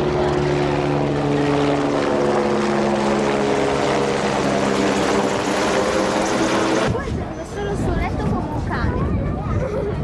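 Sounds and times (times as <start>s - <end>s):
aircraft engine drone flying past: 0.0s - 10.0s.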